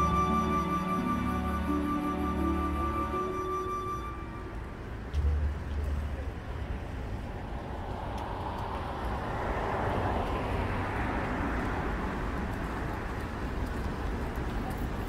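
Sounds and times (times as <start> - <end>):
vehicle passing: 0.0 - 14.2
low rumble of traffic: 0.0 - 15.0.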